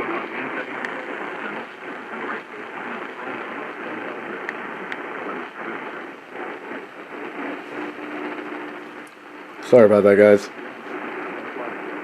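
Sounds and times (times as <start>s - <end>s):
radio hiss and static: 0.0s - 12.0s
sharp static crackles: 0.0s - 12.0s.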